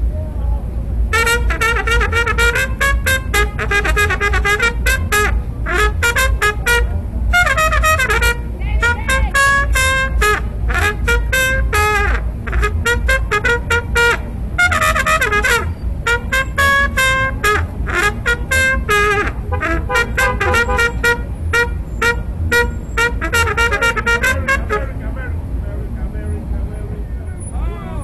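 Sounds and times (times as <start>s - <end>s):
trumpet playing: 1.1s - 25.4s.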